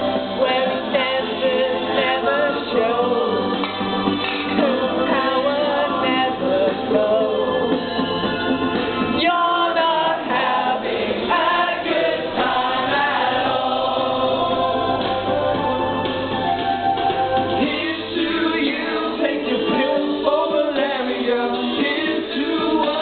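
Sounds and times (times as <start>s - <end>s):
group of voices singing: 0.0s - 16.6s, 17.5s - 23.0s
pop song with singing: 0.0s - 23.0s.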